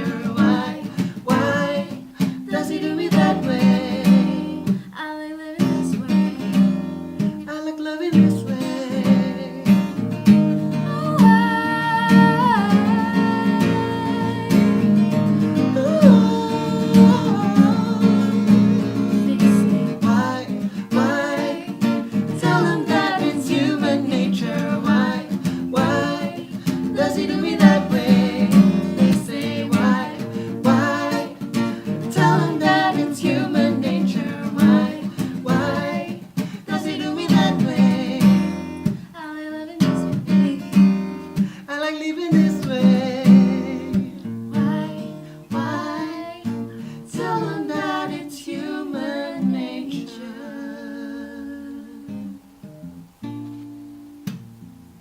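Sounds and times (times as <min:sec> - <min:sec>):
acoustic guitar strumming: 0:00.0 - 0:04.9, 0:05.6 - 0:39.1, 0:39.8 - 0:50.2, 0:51.7 - 0:55.0
voices singing: 0:00.0 - 0:52.4.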